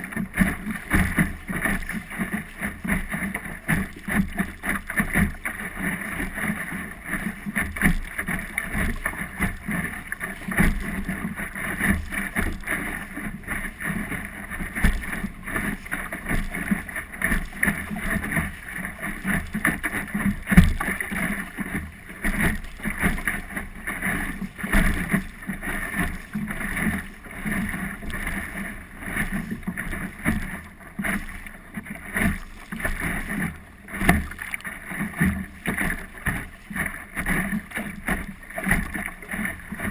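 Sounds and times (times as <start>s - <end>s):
water slapping against hull: 0.0s - 39.9s.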